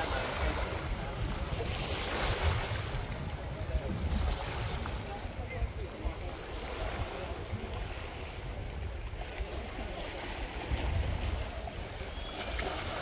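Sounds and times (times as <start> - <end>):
waves lapping on rocky shore: 0.0 - 13.0
wind buffeting microphone: 0.0 - 13.0.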